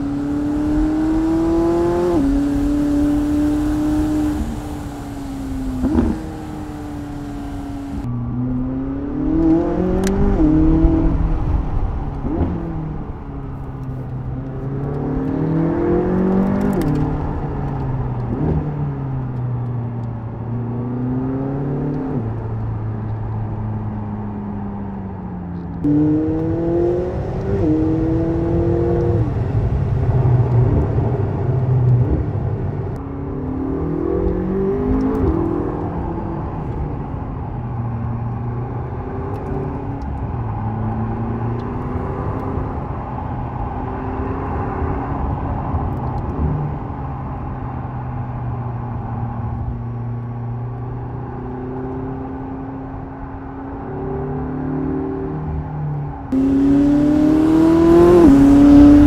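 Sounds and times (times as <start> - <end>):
sports car engine accelerating: 0.0 - 59.0.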